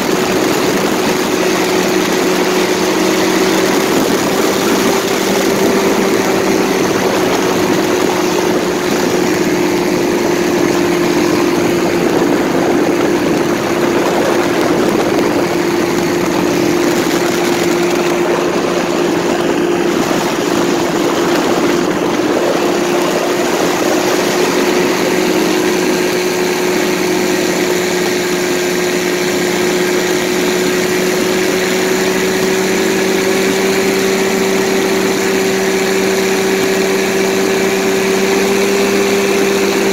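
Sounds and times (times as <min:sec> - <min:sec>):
paramotor engine drone: 0:00.0 - 0:39.9
rushing wind: 0:00.0 - 0:39.9.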